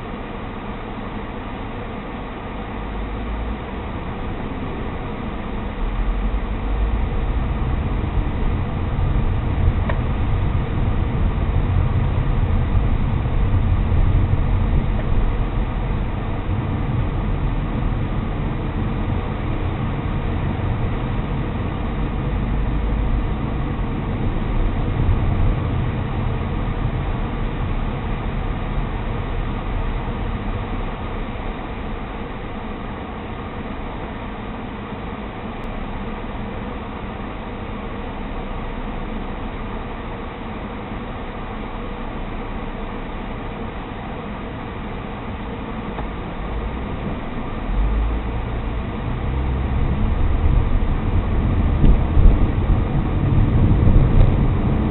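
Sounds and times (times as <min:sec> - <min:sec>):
car driving heard from inside: 0:00.0 - 0:54.9.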